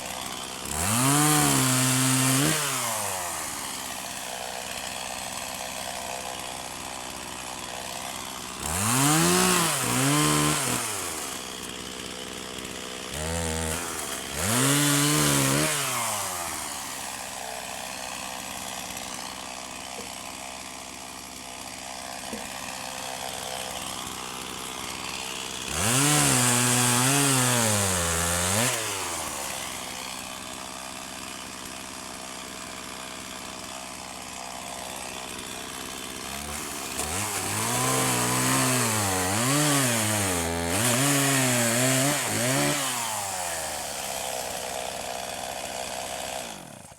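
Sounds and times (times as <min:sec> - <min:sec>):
chainsaw idling and revving: 0:00.0 - 0:46.9.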